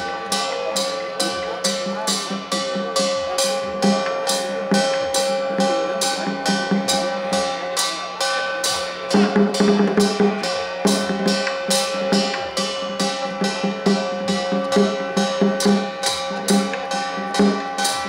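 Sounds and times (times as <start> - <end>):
percussion-led music: 0.0 - 18.0.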